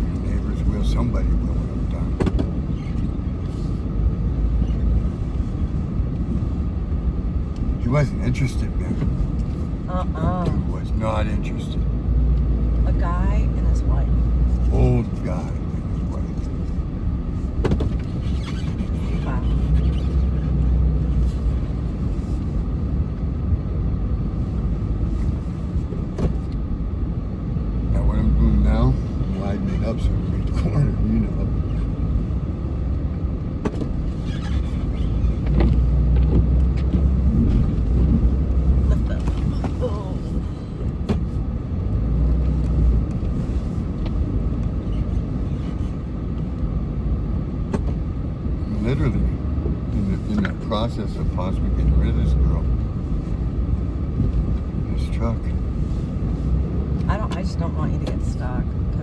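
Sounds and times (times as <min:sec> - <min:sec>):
truck engine rumbling under load: 0:00.0 - 0:59.0.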